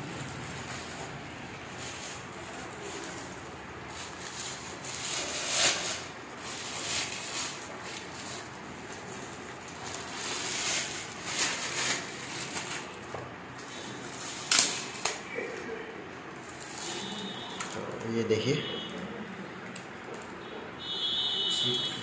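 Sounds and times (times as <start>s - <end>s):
plastic bags rustling and crinkling: 0.0s - 18.2s.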